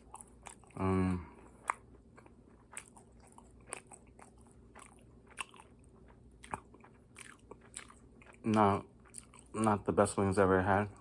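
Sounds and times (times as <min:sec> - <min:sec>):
chewing crispy fried chicken: 0:00.0 - 0:11.0.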